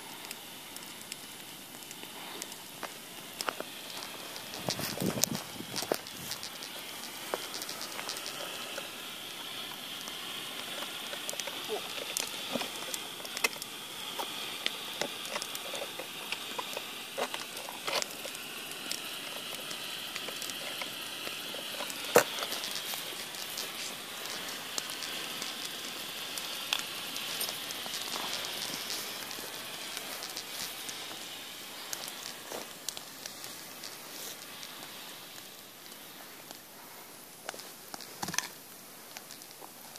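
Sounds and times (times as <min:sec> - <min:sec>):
crackles and pops: 0:00.0 - 0:39.9
smoke flare hissing: 0:00.0 - 0:39.9.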